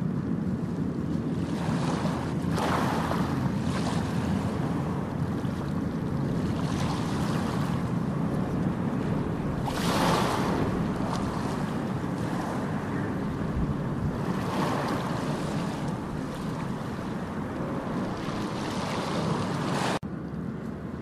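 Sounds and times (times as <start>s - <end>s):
ocean waves washing on shore: 0.0s - 21.0s.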